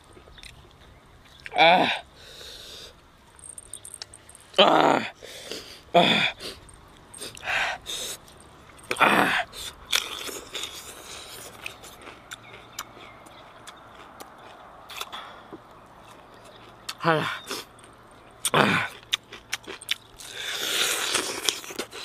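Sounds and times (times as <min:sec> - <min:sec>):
crunching and chewing food: 0:00.0 - 0:01.6, 0:05.4 - 0:22.0.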